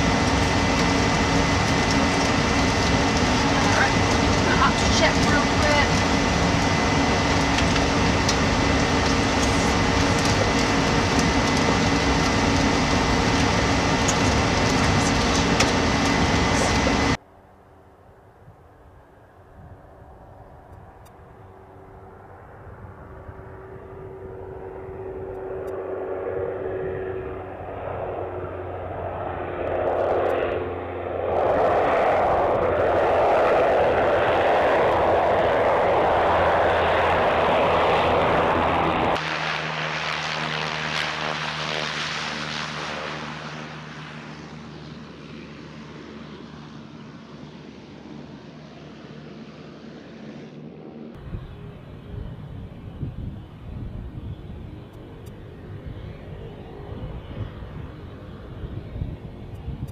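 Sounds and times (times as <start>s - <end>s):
turboprop engine drone: 0.0s - 59.9s.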